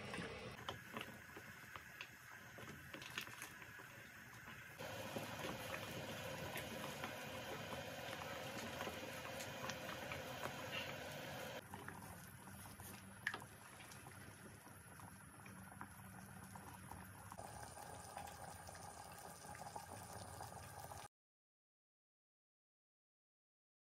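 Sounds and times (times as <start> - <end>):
thick gravy bubbling in a pot: 0.6 - 21.1.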